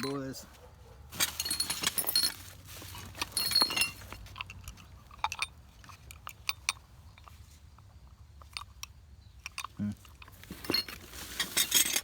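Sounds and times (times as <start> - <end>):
metal junk clinking and jangling: 0.0 - 7.5, 9.4 - 12.0.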